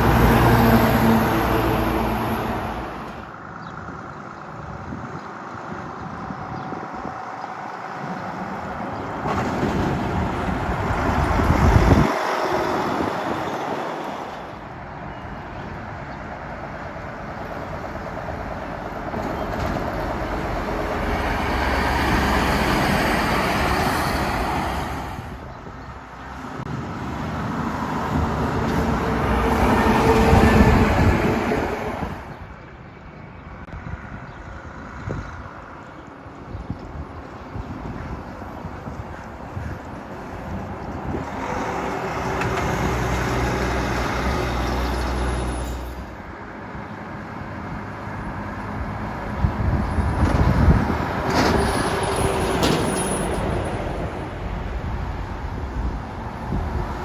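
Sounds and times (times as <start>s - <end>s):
heavy trucks driving past: 0.0s - 57.0s.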